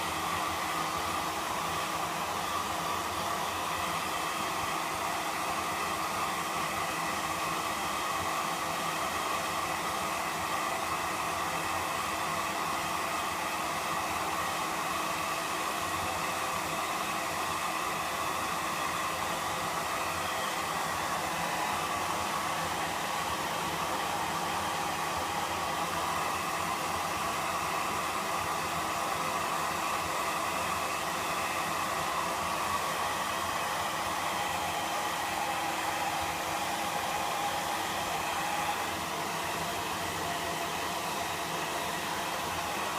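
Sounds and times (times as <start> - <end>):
hair dryer running: 0.0 - 42.9.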